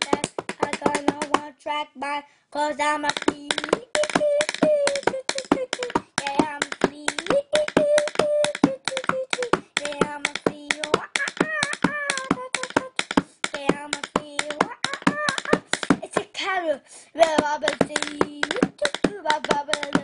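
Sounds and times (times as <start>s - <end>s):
pencil tapping rapidly: 0.0s - 1.5s, 2.9s - 16.4s, 17.2s - 20.0s
child singing wordless notes: 0.0s - 20.0s.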